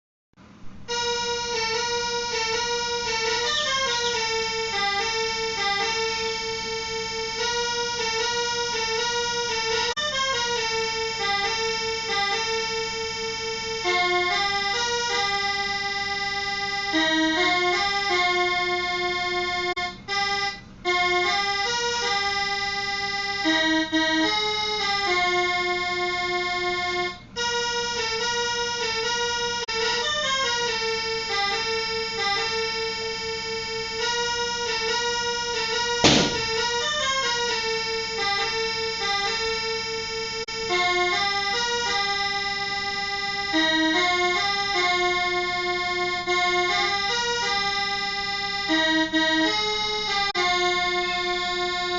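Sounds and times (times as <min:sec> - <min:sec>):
accordion-like ringtone melody: 0:00.9 - 0:51.9.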